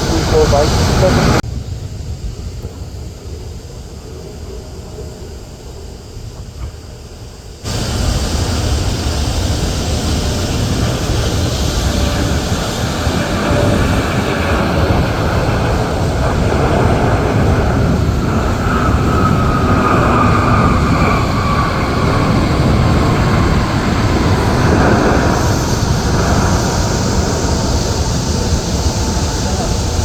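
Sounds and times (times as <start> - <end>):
jet airliner engines roaring: 0.0 - 30.0.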